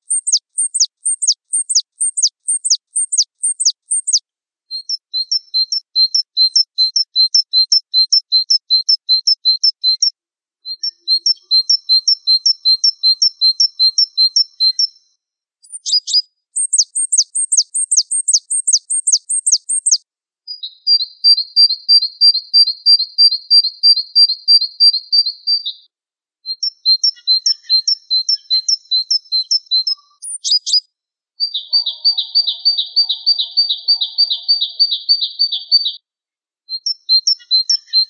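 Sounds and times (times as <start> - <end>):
songbird chirping: 0.0 - 22.1, 26.5 - 36.1, 36.7 - 38.0.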